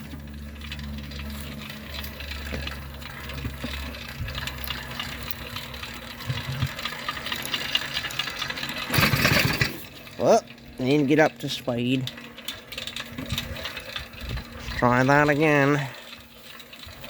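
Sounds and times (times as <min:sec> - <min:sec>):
two-stroke engine idling: 0:00.0 - 0:17.0.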